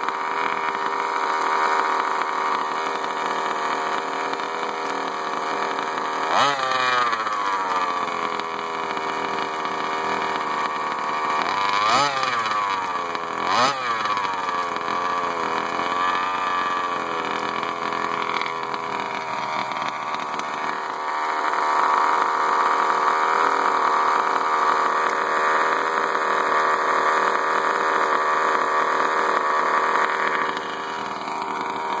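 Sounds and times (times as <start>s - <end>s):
engine throttle blips: 0.0s - 32.0s
small two-stroke engine idling: 0.0s - 32.0s.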